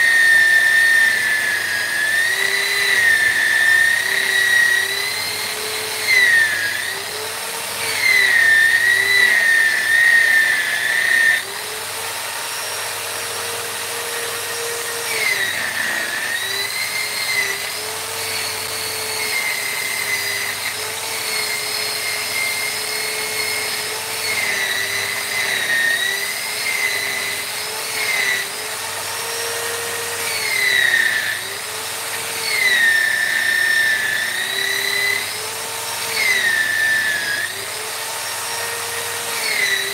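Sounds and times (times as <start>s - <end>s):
rotary carving tool on wood: 0.0s - 39.9s.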